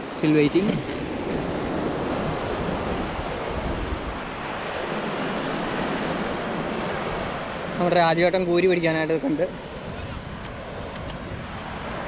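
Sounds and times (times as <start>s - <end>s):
surf washing onto beach: 0.0s - 12.0s
wind rumbling on microphone: 0.0s - 12.0s.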